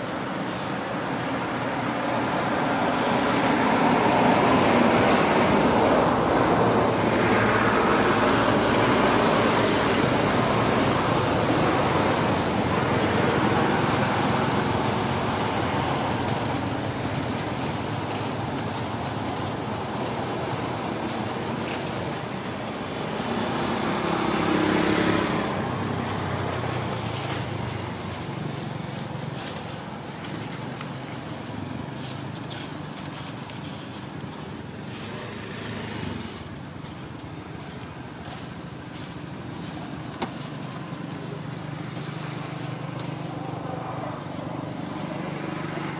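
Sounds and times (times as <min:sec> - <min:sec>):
road traffic: 0:00.0 - 0:45.9.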